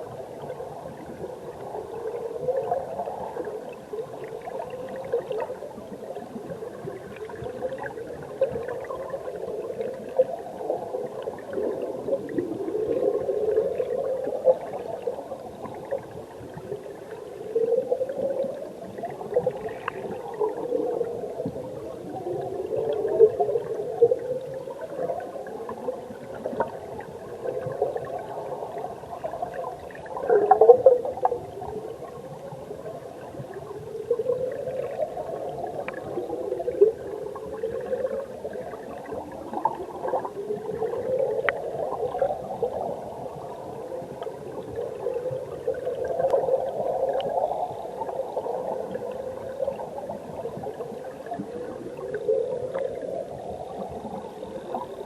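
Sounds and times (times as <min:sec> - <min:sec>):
underwater stream gurgling: 0:00.0 - 0:55.0.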